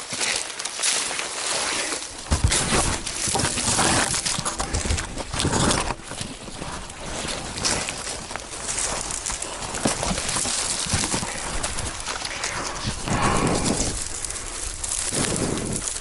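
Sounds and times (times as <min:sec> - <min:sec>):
footsteps crunching through litter: 0:00.0 - 0:16.0.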